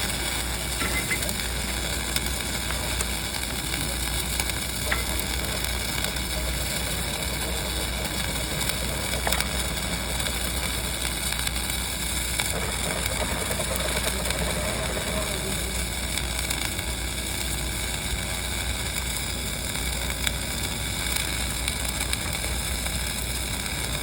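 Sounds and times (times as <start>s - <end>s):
welding arc crackling and sizzling: 0.0s - 24.0s.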